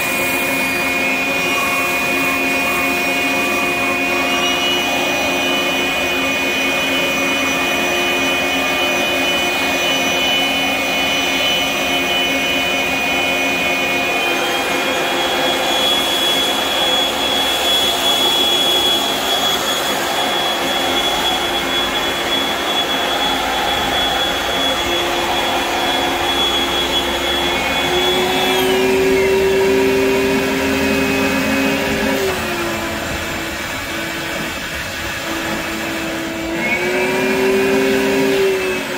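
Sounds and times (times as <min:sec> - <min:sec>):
sander motor whining: 0:00.0 - 0:38.9
shop vacuum running: 0:00.0 - 0:38.9.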